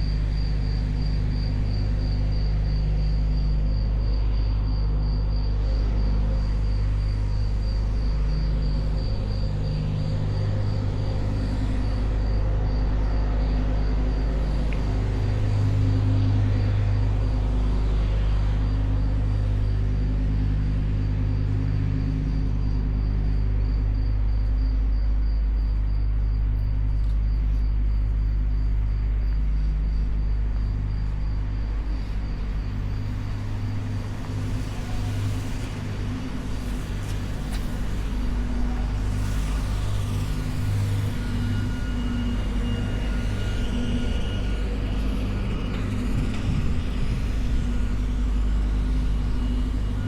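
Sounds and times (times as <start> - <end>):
low machinery rumble: 0.0 - 50.0.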